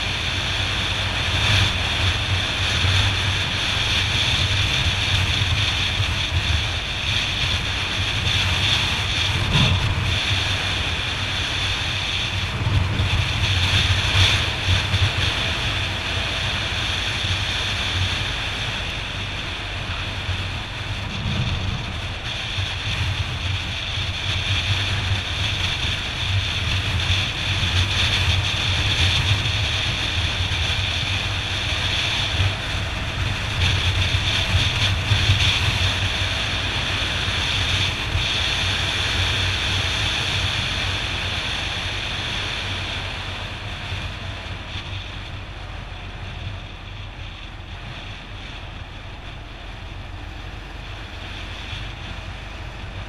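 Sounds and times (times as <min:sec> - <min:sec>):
motorcycle engine cruising: 0:00.0 - 0:53.0
wind buffeting microphone: 0:00.0 - 0:53.0.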